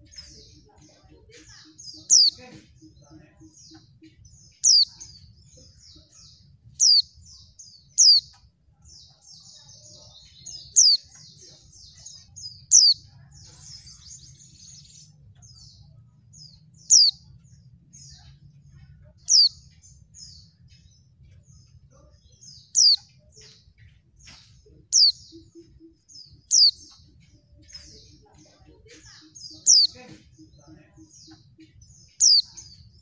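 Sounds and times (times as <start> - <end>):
soft twittering chatter: 0.0 - 33.0.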